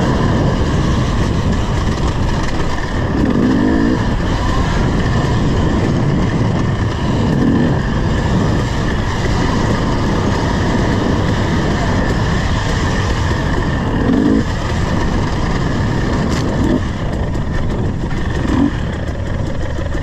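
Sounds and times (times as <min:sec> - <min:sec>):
two-stroke dirt bike engine revving: 0:00.0 - 0:20.0.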